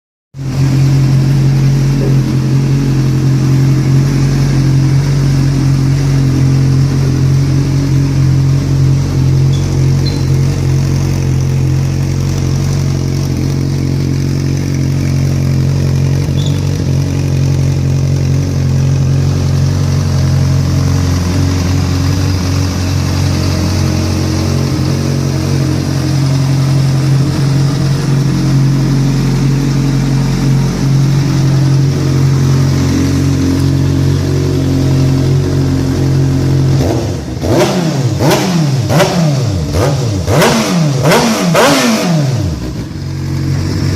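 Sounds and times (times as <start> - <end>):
motorcycle engine idling: 0.4 - 43.9.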